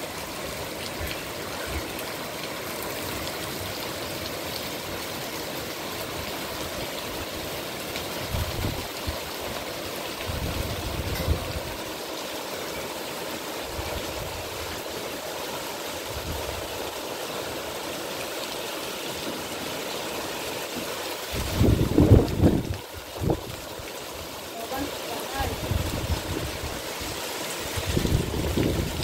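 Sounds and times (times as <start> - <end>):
heavy rain on leaves: 0.0 - 29.0.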